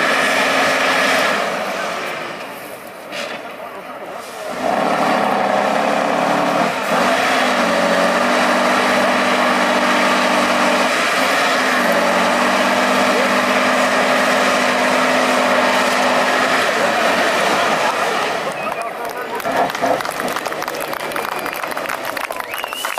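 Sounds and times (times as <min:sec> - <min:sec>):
truck diesel engine running hard: 0:00.0 - 0:22.9.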